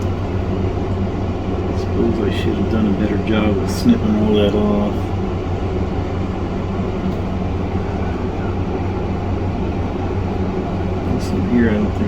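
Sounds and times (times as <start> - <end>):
machine hum with hiss: 0.0 - 12.0.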